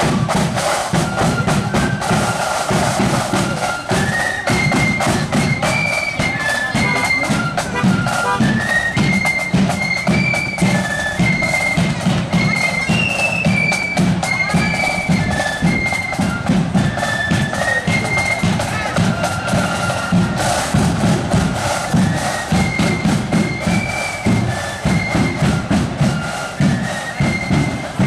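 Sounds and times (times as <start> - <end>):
drums beating: 0.0 - 28.0
flute melody: 0.0 - 28.0.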